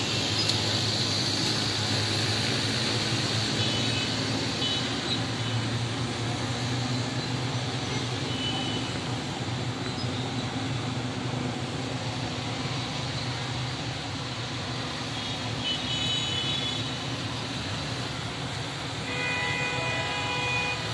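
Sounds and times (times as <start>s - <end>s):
low traffic rumble: 0.0s - 20.9s.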